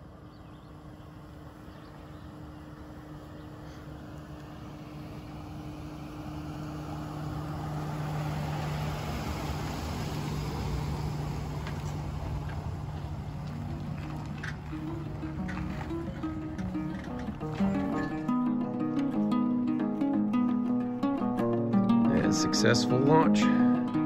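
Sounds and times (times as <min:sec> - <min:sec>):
pickup truck engine hum: 0:00.0 - 0:24.0
tyres rolling on asphalt: 0:00.0 - 0:24.0.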